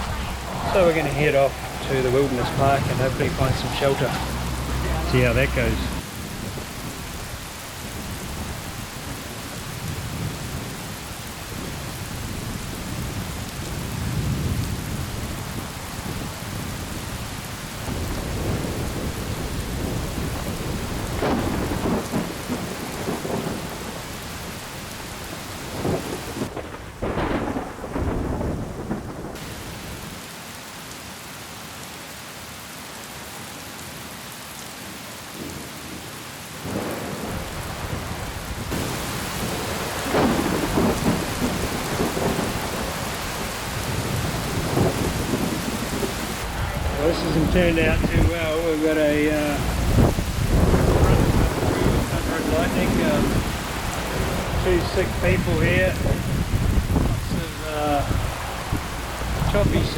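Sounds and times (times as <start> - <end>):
thunder rumbling: 0.0 - 30.1, 35.3 - 59.9
heavy rain: 0.0 - 59.9.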